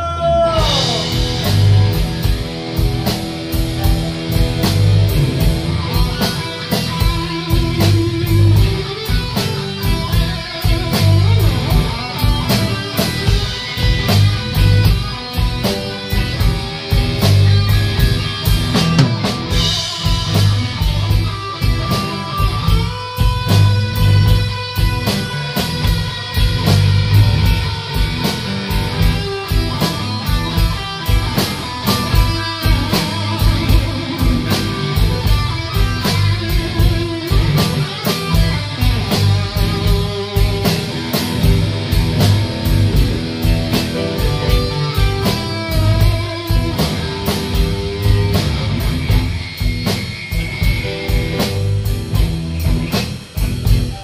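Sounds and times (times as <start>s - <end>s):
bass guitar: 0.0s - 54.0s
electric guitar lead: 0.0s - 54.0s
drum beat: 0.6s - 54.0s.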